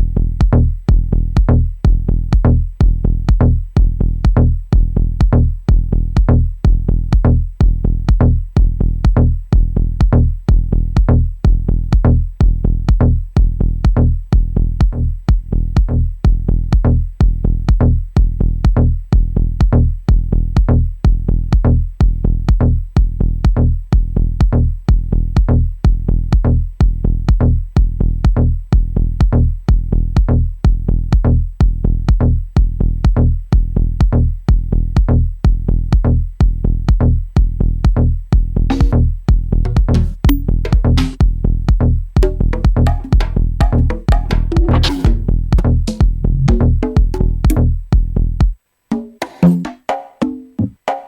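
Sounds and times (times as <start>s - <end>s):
deep sustained bass: 0.0s - 48.5s
drum machine kick: 0.0s - 51.0s.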